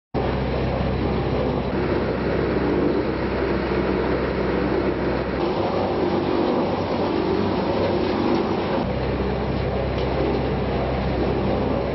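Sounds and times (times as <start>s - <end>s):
diesel engine hum: 0.2s - 11.9s
rumble of material tumbling: 0.2s - 11.9s.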